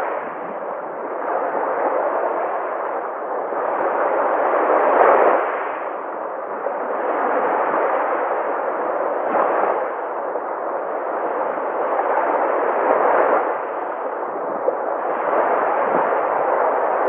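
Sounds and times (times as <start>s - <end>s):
sea waves breaking: 0.0s - 17.0s.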